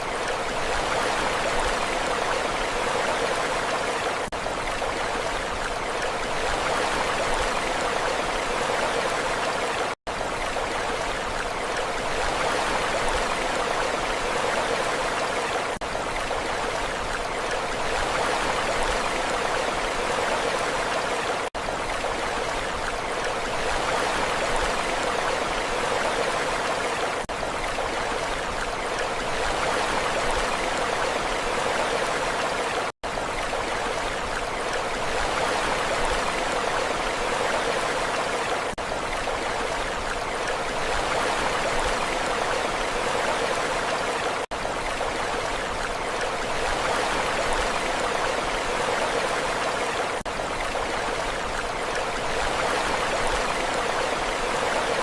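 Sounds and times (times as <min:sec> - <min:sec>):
rushing water: 0:00.0 - 0:55.0.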